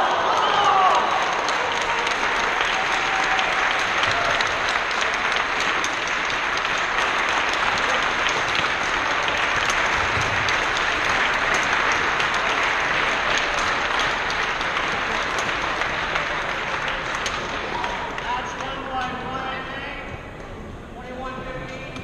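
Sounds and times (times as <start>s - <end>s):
audience applauding: 0.0s - 19.5s.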